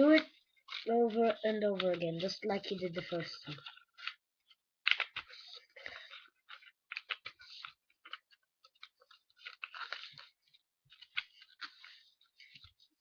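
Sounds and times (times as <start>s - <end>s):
paper being folded and crinkling: 0.0s - 13.0s.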